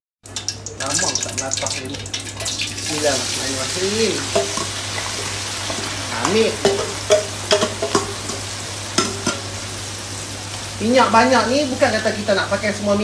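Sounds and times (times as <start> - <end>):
food sizzling in hot oil: 0.2 - 13.0.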